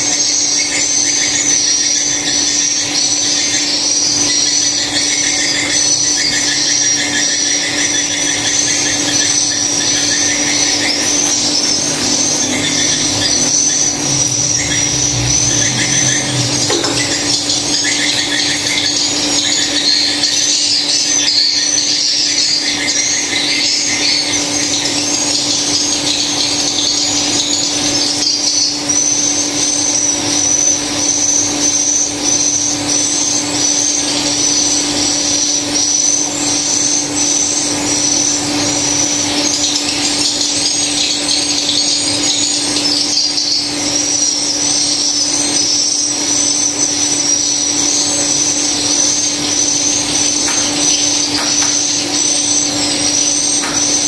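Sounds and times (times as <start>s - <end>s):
swiftlets twittering: 0.0s - 54.0s.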